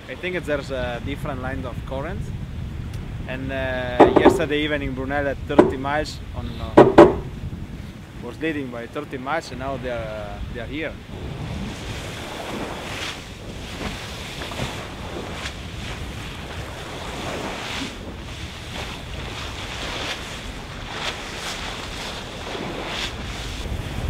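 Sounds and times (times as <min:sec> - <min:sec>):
wind rumbling on microphone: 0:00.0 - 0:08.7, 0:09.4 - 0:24.0
sea rushing along hull: 0:00.0 - 0:24.0
waves and spray hitting boat: 0:00.0 - 0:24.0.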